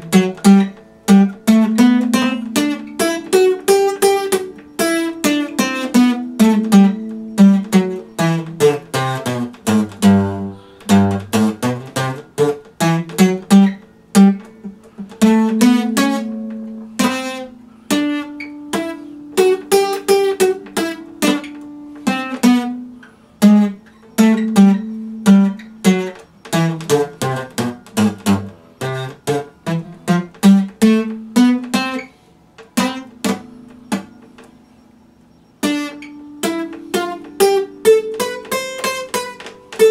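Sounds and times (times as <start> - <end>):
acoustic guitar fingerpicking: 0.0 - 39.9.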